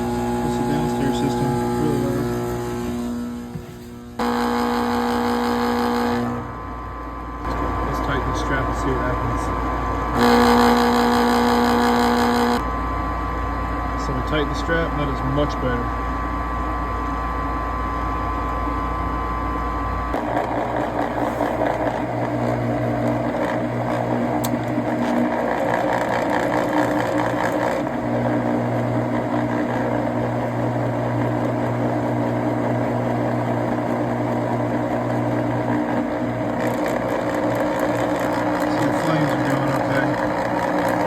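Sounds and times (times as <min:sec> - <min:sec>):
furnace draft inducer motor running: 0:00.0 - 0:41.0.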